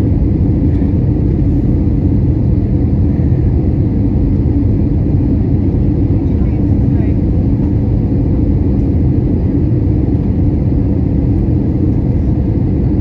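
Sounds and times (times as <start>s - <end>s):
jet engine and airflow roar: 0.0s - 13.0s.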